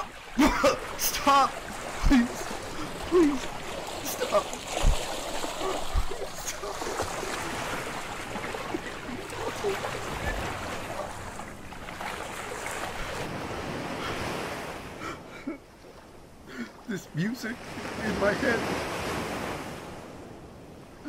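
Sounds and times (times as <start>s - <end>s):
ocean surf rushing: 0.0s - 15.6s, 16.6s - 21.0s.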